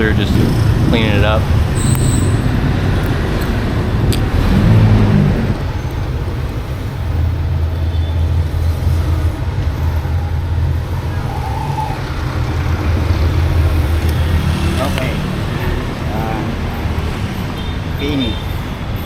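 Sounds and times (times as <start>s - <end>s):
road traffic engine hum: 0.0s - 19.0s.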